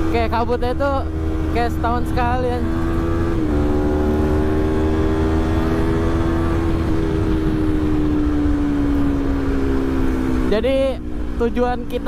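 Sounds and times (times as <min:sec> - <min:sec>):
motorcycle engine cruising: 0:00.0 - 0:12.0
wind and road rumble: 0:00.0 - 0:12.0.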